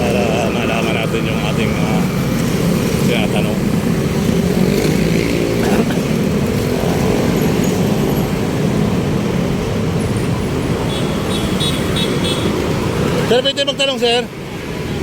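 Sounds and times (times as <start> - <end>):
road noise: 0.0 - 15.0
vehicle engines running: 0.0 - 15.0.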